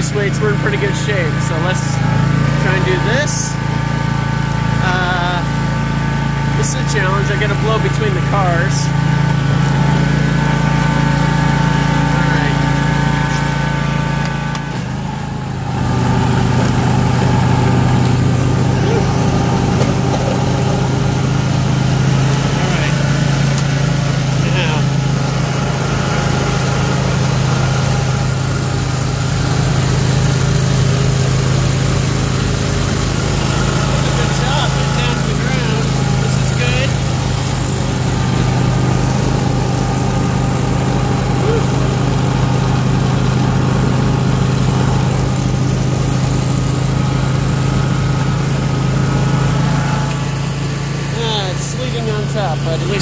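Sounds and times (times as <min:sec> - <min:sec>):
garden tractor engine humming: 0:00.0 - 0:53.0
snowthrower throwing snow: 0:04.5 - 0:53.0.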